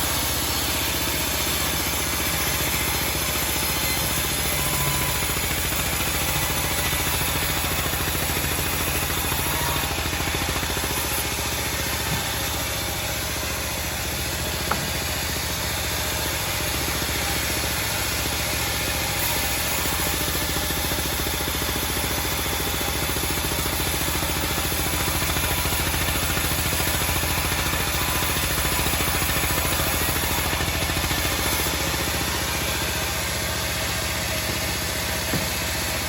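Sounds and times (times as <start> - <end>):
band sawmill engine running: 0.0 - 36.0.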